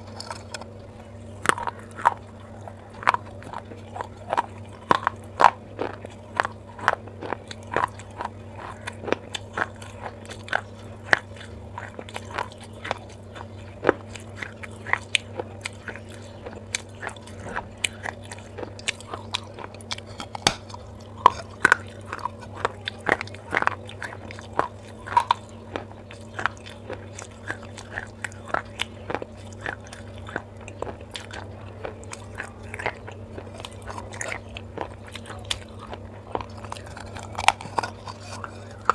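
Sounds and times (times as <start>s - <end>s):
biting and chewing clay: 0.0s - 38.9s.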